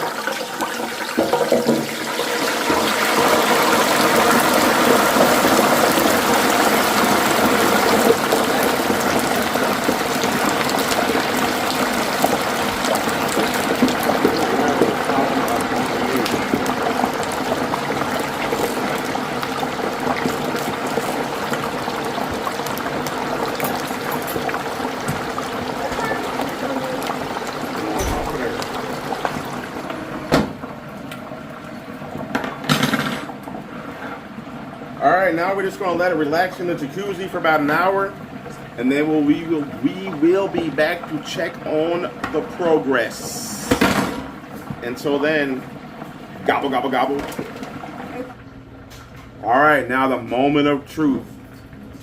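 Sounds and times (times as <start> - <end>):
hot oil bubbling and sizzling: 0.0 - 52.0.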